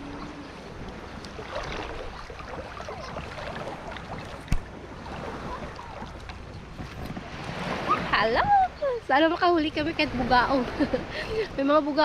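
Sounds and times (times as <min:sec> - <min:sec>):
shallow water sloshing: 0:00.0 - 0:11.5.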